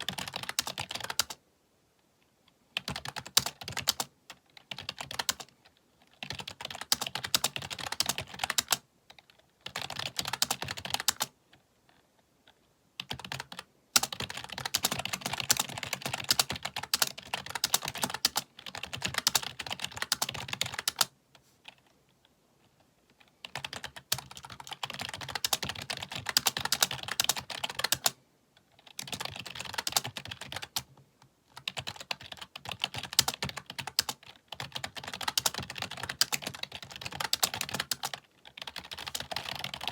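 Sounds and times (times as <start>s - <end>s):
fast keyboard typing: 0.0s - 1.4s, 2.8s - 11.4s, 13.0s - 21.1s, 23.4s - 28.2s, 28.8s - 30.9s, 31.5s - 39.9s.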